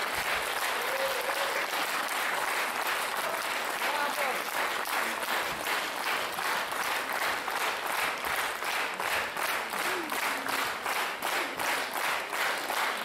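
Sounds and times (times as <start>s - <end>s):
audience clapping in rhythm: 0.0s - 13.0s.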